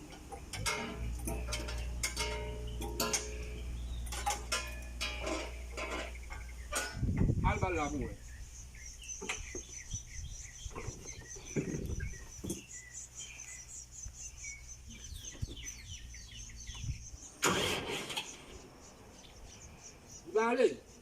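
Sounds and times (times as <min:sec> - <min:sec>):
low outdoor rumble: 0:00.0 - 0:17.4
small birds chirping: 0:00.0 - 0:21.0.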